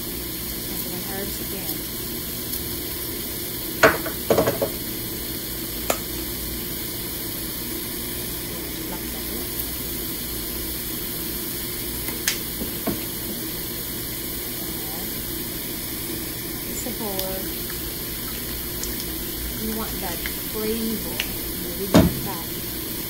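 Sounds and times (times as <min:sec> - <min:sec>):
vegetables sizzling in skillet: 0:00.0 - 0:23.0.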